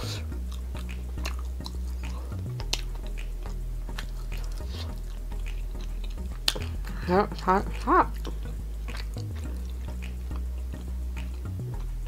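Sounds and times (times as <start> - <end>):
low background music: 0.0 - 12.0
person chewing food: 0.0 - 12.0.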